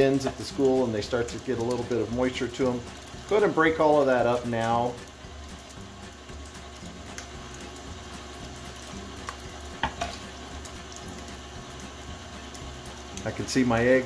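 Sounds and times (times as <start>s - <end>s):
stand mixer running: 0.0s - 14.0s.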